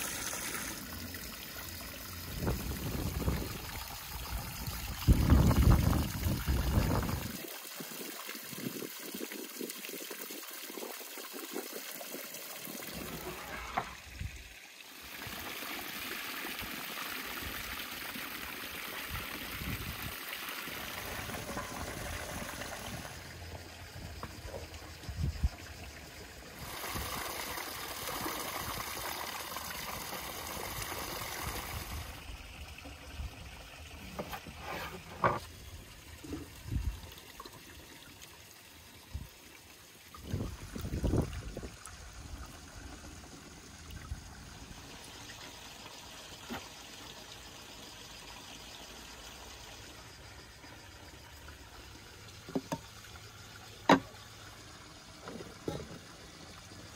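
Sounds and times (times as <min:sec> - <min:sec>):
water trickling into basin: 0:00.0 - 0:56.9.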